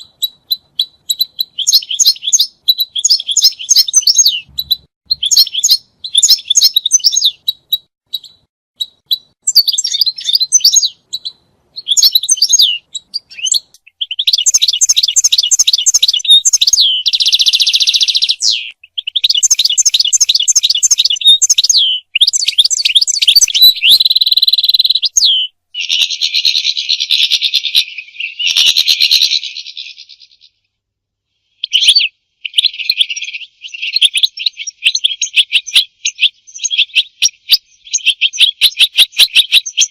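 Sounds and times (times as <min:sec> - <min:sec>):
bird twittering and trilling: 0:00.0 - 0:30.7, 0:31.6 - 0:39.9.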